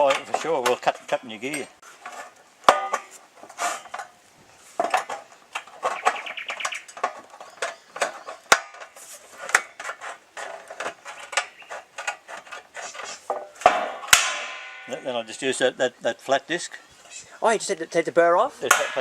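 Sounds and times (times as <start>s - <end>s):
metal roofing sheet clanking: 0.0s - 15.4s, 18.6s - 19.0s.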